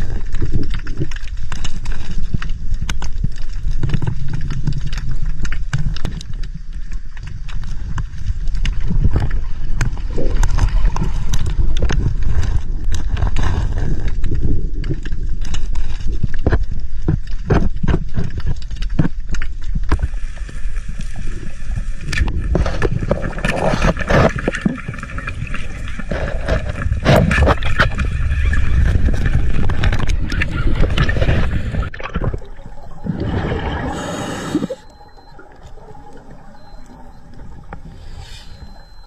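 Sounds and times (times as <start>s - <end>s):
water sloshing and gurgling: 0.0s - 39.0s.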